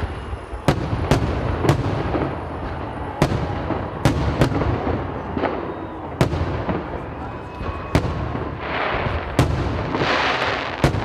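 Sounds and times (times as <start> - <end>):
distant fireworks rumble: 0.0 - 11.0
fireworks bangs: 0.0 - 11.0.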